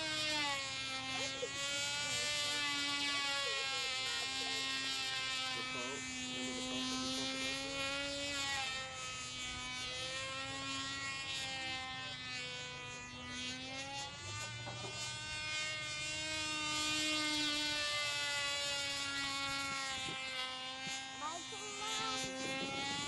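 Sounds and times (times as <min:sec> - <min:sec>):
model plane engine buzzing whine: 0:00.0 - 0:23.0.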